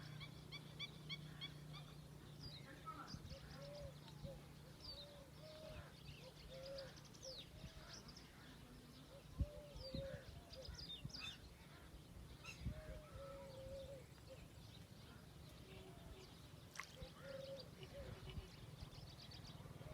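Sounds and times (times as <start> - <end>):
small birds chirping and trilling: 0.0 - 19.9.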